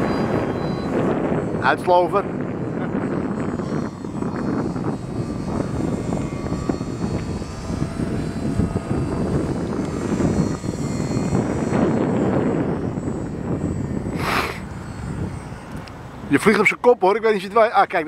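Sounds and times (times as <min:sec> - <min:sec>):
model plane motor whine: 0:00.0 - 0:18.0
wind buffeting microphone: 0:00.0 - 0:18.0.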